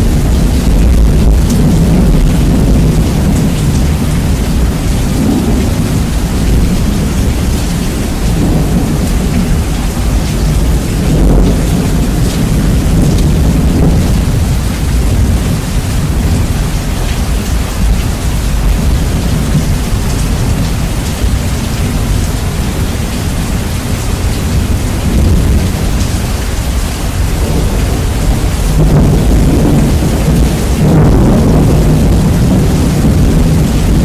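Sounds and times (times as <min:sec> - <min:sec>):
heavy rain: 0:00.0 - 0:34.0
thunder rumbling: 0:00.0 - 0:34.0.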